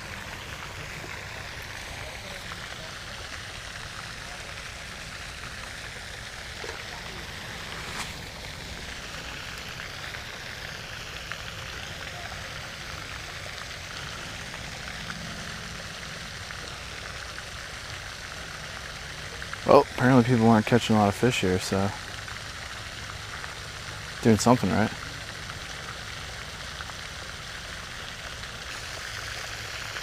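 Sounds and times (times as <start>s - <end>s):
fountain water splashing: 0.0s - 30.0s.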